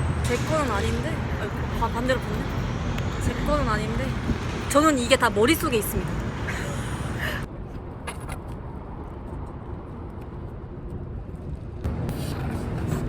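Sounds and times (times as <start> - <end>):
low rumble of vehicle noise: 0.0 - 13.0.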